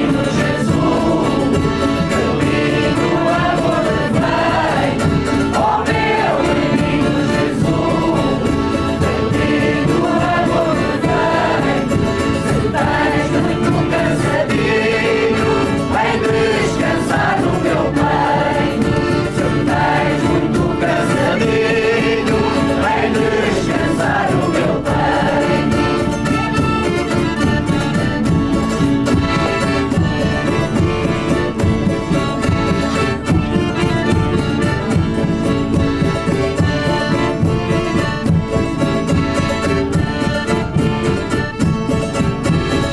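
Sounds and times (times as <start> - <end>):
choir singing: 0.0 - 41.6
instrumental accompaniment: 0.0 - 42.9.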